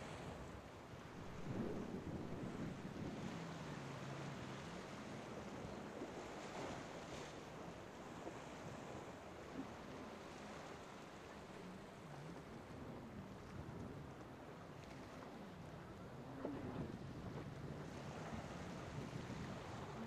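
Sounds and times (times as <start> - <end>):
faint boat engine droning: 0.0 - 20.0
surf washing: 0.0 - 20.0
wind: 0.0 - 20.0.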